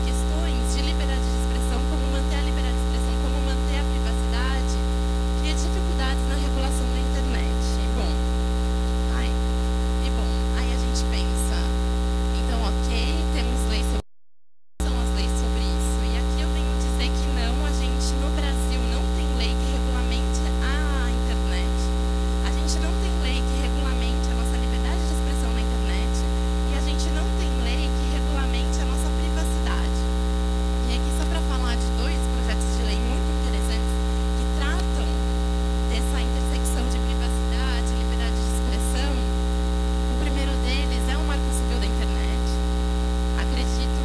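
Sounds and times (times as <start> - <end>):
electrical mains hum: 0.0 - 14.0, 14.8 - 44.0.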